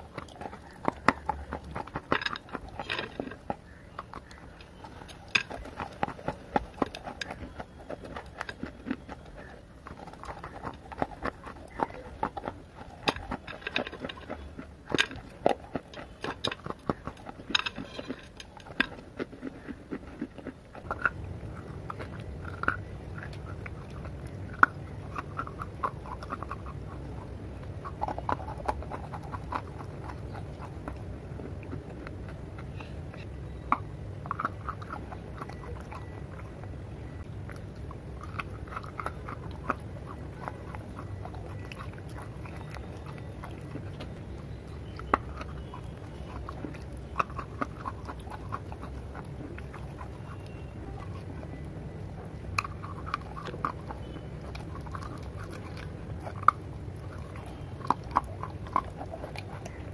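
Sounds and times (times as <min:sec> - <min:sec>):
chewing crunchy clay pieces: 0:00.0 - 0:59.9
steady low hum: 0:00.0 - 0:59.9.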